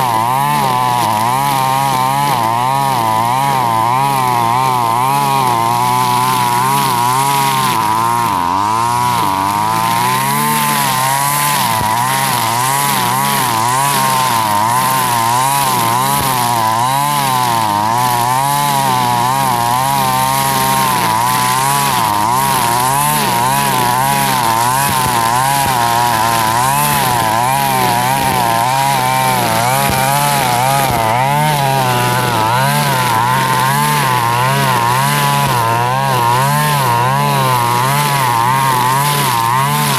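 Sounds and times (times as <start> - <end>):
brush cutter engine at high revs: 0.0 - 39.9
trimmer line cutting grass: 0.0 - 39.9.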